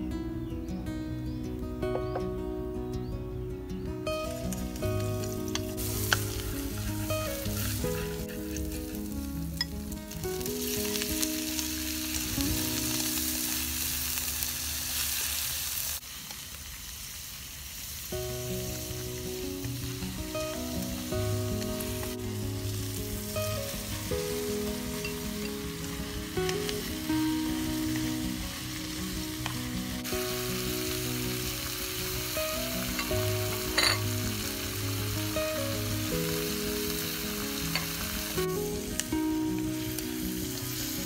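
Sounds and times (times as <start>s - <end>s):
background music with melody: 0.0s - 14.5s, 18.2s - 41.0s
food sizzling in hot oil: 4.0s - 41.0s.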